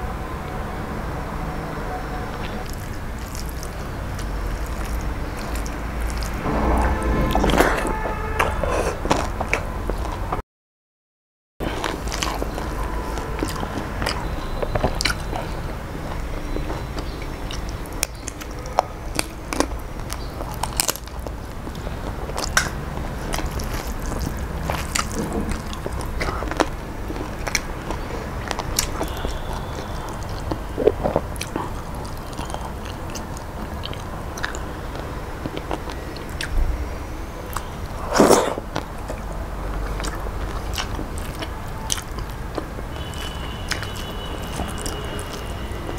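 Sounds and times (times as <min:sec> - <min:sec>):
person chewing food: 0:02.3 - 0:06.5, 0:07.4 - 0:10.4, 0:11.6 - 0:36.7, 0:37.4 - 0:45.9.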